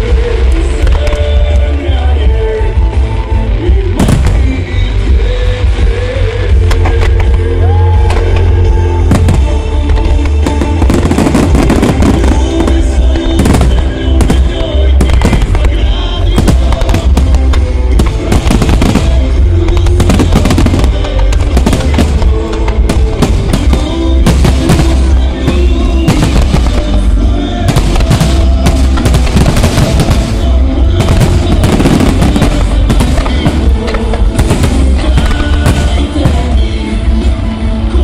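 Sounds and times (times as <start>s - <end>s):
fireworks bursting: 0.0s - 38.0s
loud music: 0.0s - 38.0s.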